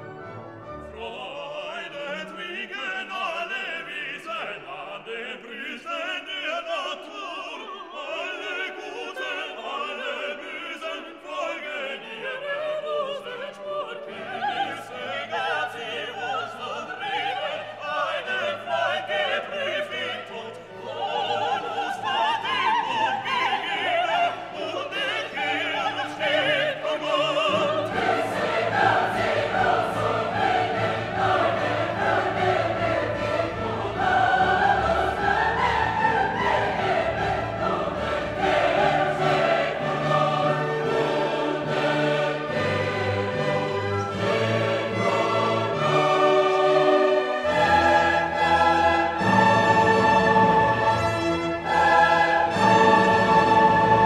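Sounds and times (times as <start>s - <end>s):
orchestra: 0.0s - 54.0s
operatic voice singing with vibrato: 0.8s - 54.0s.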